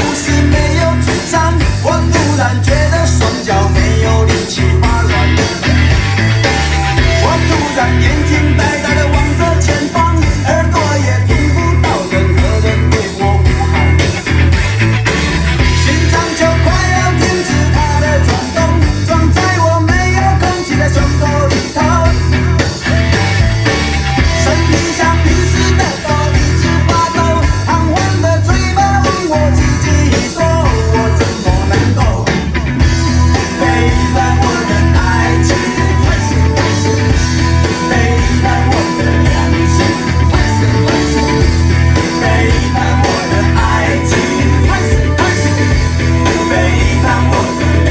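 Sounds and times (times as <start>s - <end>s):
heavy bass beat: 0.0s - 47.9s
song with singing and guitar: 0.0s - 47.9s.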